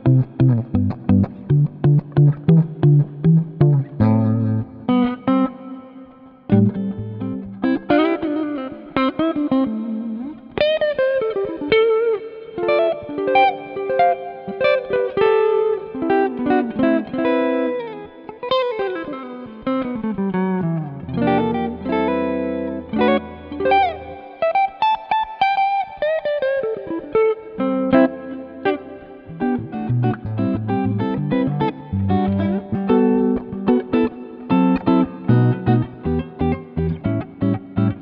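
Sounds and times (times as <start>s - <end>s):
clean electric guitar: 0.0s - 38.0s.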